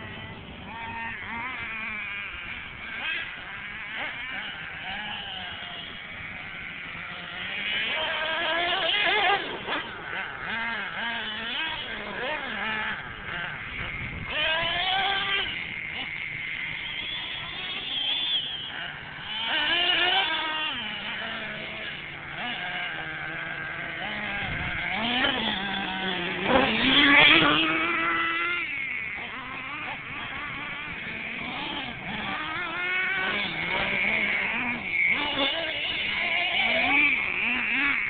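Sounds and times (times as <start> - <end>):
small nitro engine revving: 0.0 - 38.0.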